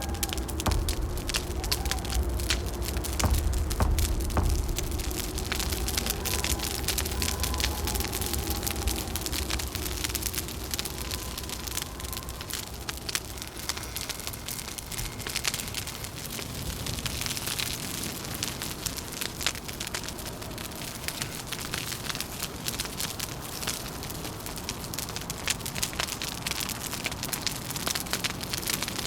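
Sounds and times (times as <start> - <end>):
low rumble of wind: 0.0 - 29.0
wood fire crackling: 0.0 - 29.0.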